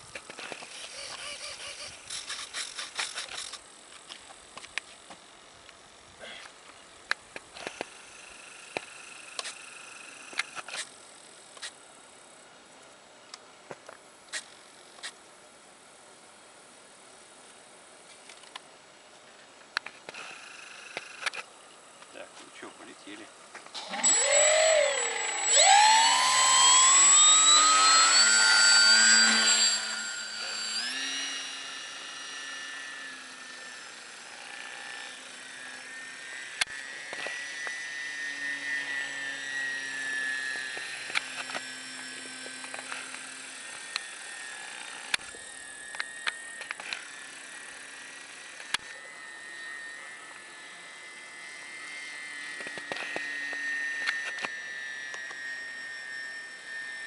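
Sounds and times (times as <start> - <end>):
model airplane motor whine: 0.0 - 12.4, 19.8 - 57.0.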